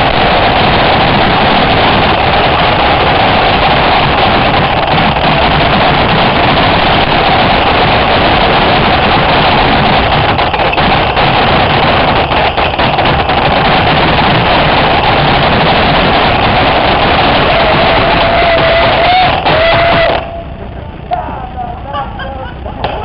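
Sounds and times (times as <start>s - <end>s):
steady whine: 0.0s - 23.0s.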